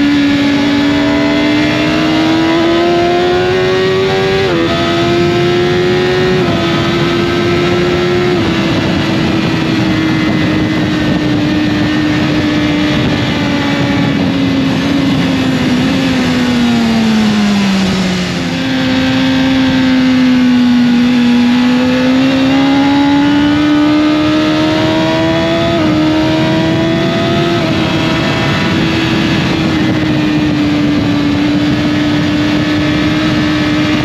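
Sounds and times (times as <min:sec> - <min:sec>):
motorcycle engine shifting gears: 0:00.0 - 0:34.0
rushing wind noise: 0:00.0 - 0:34.0.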